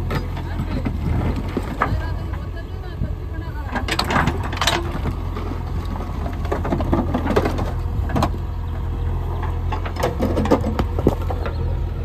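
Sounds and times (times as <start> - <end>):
soil and stones clattering: 0.0 - 2.7, 3.6 - 11.8
diesel engine running: 0.0 - 12.0.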